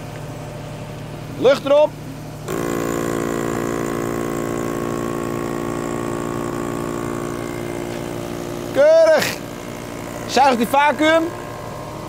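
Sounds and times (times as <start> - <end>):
electric vacuum pump running: 0.0 - 12.0.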